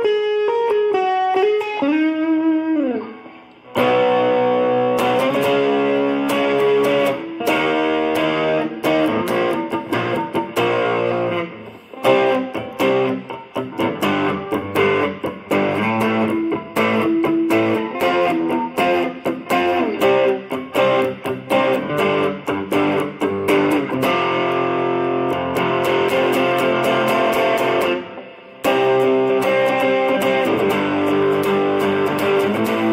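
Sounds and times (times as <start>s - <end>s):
electric guitar with reverb: 0.0s - 32.9s.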